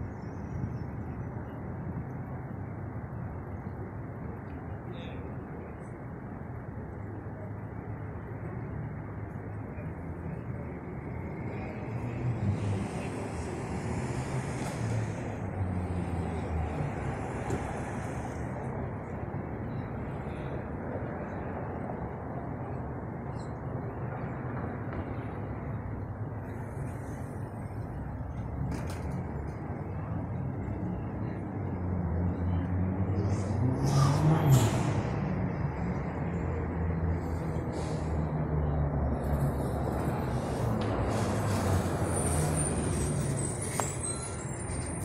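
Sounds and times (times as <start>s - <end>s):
street traffic: 0.0s - 45.0s
passing vehicle engine hum: 8.3s - 45.0s.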